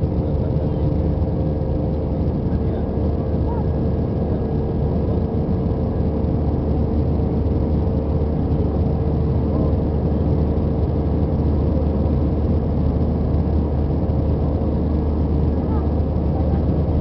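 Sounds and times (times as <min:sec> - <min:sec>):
jet engine cabin drone: 0:00.0 - 0:17.0.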